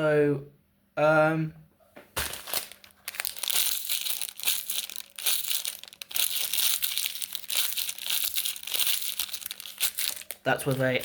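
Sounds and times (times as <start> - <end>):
plastic wrapper crinkling: 2.2 - 11.0.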